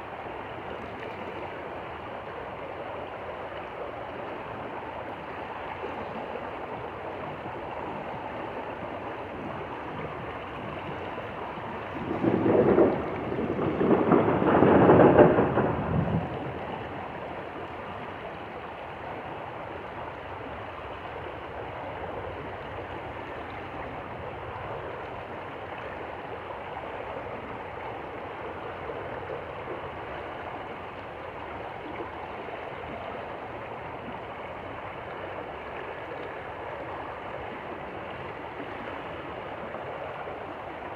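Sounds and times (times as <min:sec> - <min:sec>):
stream water flowing: 0:00.0 - 0:13.8, 0:16.2 - 0:40.9.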